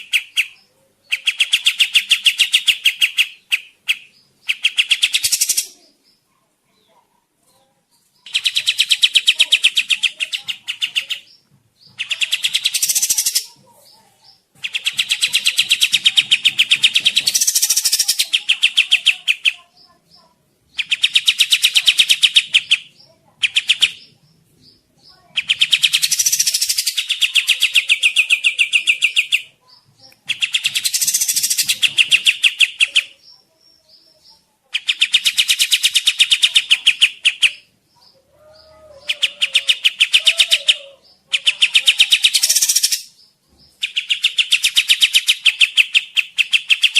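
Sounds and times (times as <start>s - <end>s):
bird chattering song: 0.0s - 46.9s.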